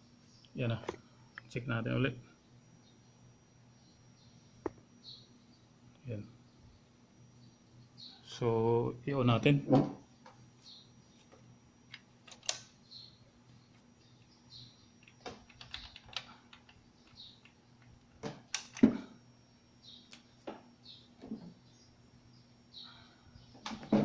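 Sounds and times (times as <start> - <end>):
faint electrical hum: 0.0 - 24.0
birds chirping: 1.4 - 11.9, 12.7 - 17.8, 19.4 - 24.0.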